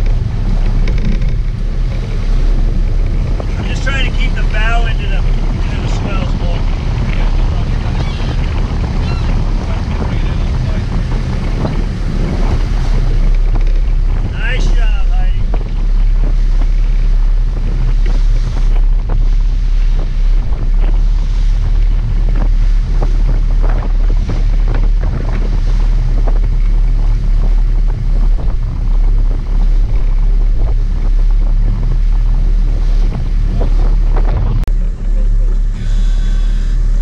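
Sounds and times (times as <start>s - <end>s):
boat engines rumbling: 0.0s - 37.0s
water churning: 0.0s - 37.0s
wind buffeting microphone: 0.0s - 37.0s.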